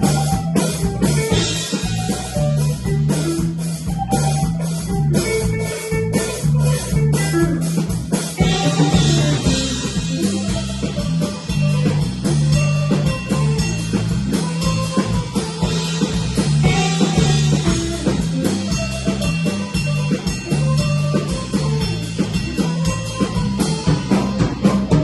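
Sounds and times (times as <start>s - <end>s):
bass guitar: 0.0s - 25.0s
drum kit: 0.0s - 25.0s
electric guitar: 0.0s - 25.0s.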